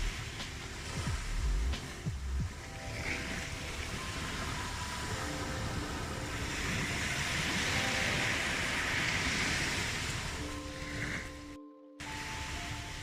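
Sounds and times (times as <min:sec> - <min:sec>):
ocean waves breaking on shore: 0:00.0 - 0:13.0
soft held music notes: 0:00.0 - 0:13.0.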